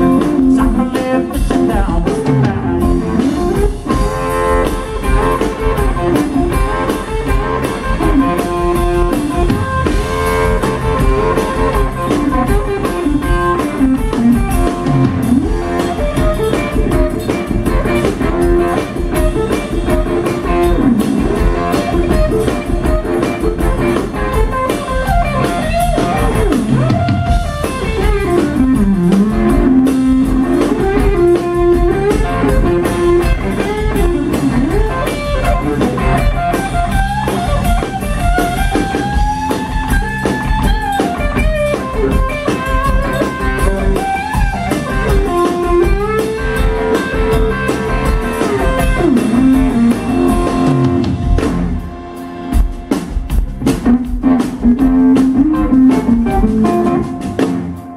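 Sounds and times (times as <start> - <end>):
drum kit: 0.0 - 57.9
electric bass: 0.0 - 57.9
electric guitar with bent notes: 0.0 - 57.9.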